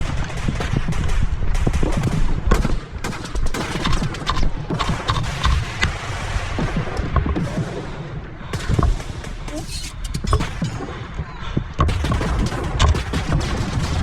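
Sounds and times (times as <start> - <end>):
airsoft guns firing: 0.0 - 14.0.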